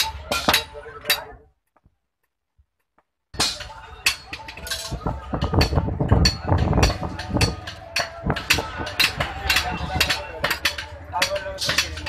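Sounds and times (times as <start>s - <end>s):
hammers striking iron on anvil: 0.0s - 1.3s, 3.4s - 12.0s.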